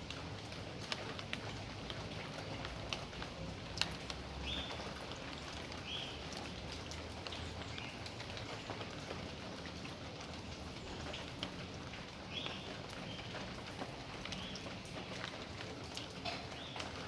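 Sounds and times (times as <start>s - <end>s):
raindrops tapping close by: 0.0s - 17.0s
steady rain falling: 0.0s - 17.0s.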